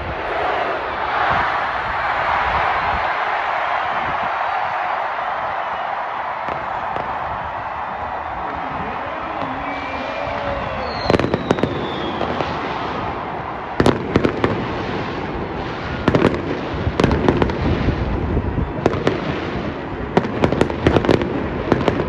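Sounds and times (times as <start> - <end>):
fireworks bangs and crackles: 2.3 - 22.0.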